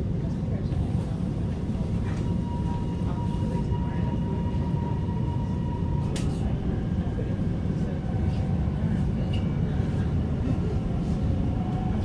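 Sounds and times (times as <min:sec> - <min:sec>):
electric train rumbling on track: 0:00.0 - 0:12.0.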